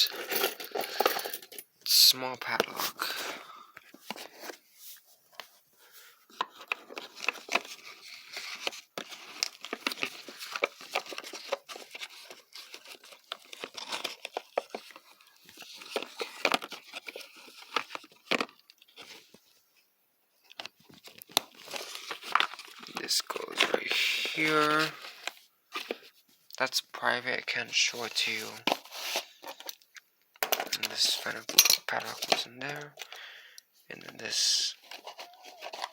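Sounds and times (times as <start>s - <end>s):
hands rummaging small objects: 0.0s - 19.5s, 20.4s - 35.9s.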